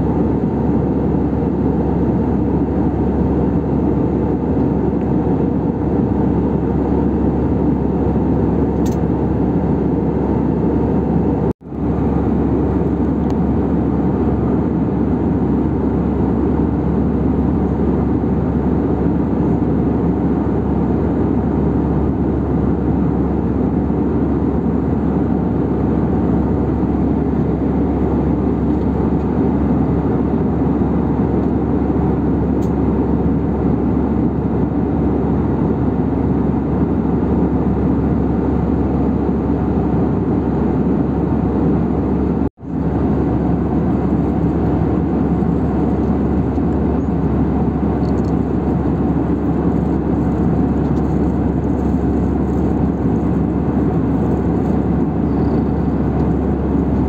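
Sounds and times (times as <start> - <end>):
airplane cabin engine rush: 0.0 - 57.0.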